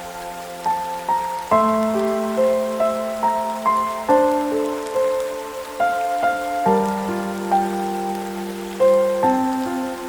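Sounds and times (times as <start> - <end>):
rain patter: 0.0 - 10.0
soft instrumental hymn music: 0.0 - 10.0.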